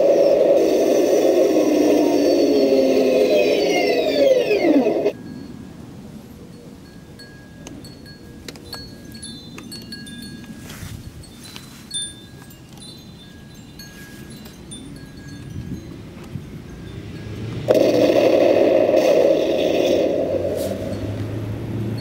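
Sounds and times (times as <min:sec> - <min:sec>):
chime-like ringing tones: 0:02.0 - 0:17.8, 0:20.2 - 0:22.0.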